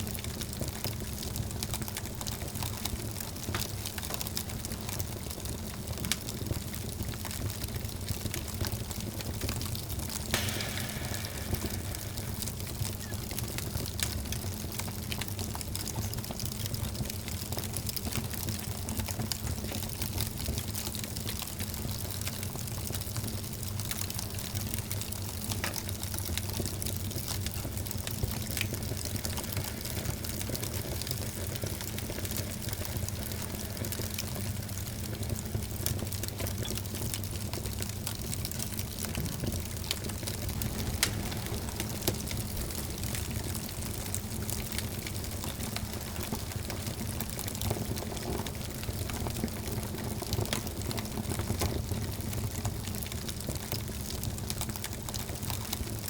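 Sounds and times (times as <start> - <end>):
wood fire crackling and hissing: 0.0 - 56.0.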